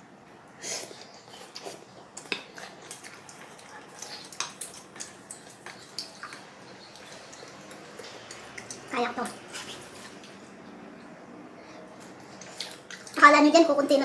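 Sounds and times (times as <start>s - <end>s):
wet chewing and lip smacks: 0.9s - 11.2s, 12.0s - 13.2s.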